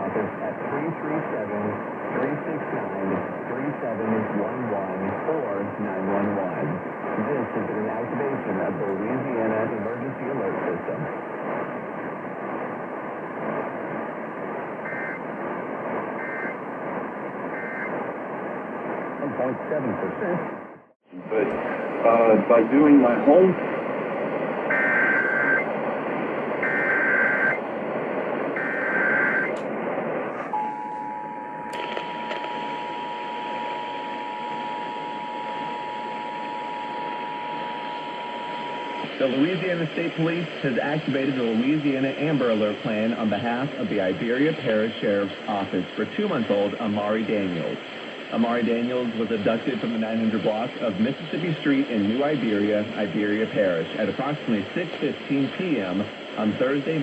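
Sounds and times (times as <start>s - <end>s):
radio hiss: 0.0s - 57.0s.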